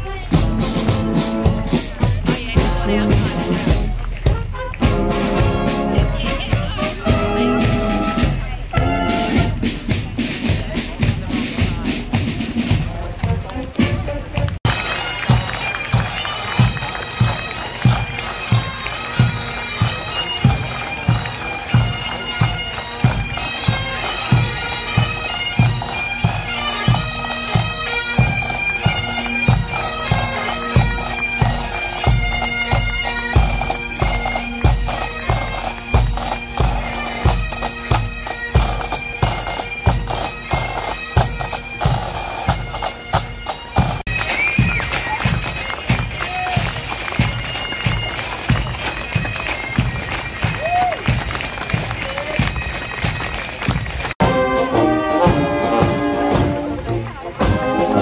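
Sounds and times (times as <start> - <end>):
marching drums beat: 0.0 - 58.0
bagpipes playing over drone: 0.2 - 10.6, 14.7 - 58.0.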